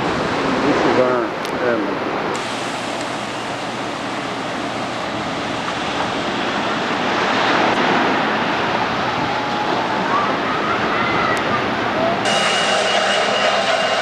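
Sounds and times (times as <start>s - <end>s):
wind buffeting microphone: 0.0s - 12.3s
surf rushing: 0.0s - 14.0s.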